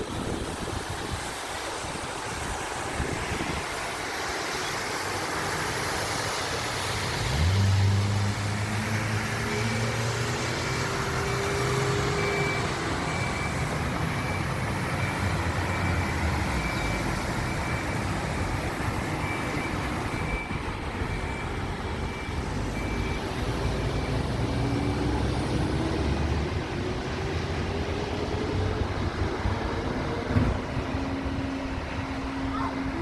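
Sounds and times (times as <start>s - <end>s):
heavy rain hiss: 0.0s - 32.4s
traffic on a wet road: 0.0s - 33.0s
vehicle engines passing: 0.0s - 33.0s.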